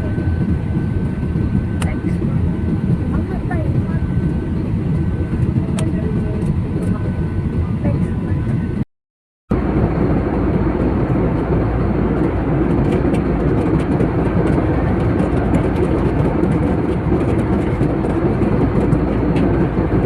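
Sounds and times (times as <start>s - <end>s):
airliner cabin engine rumble: 0.0s - 8.8s, 9.5s - 20.0s.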